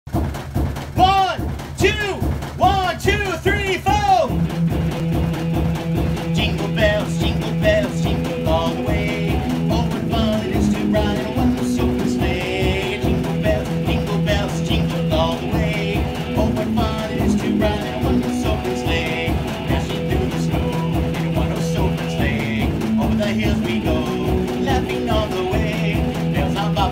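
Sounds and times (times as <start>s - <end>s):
washing machine thumping: 0.1s - 26.9s
electric guitar rock riff: 4.2s - 26.9s.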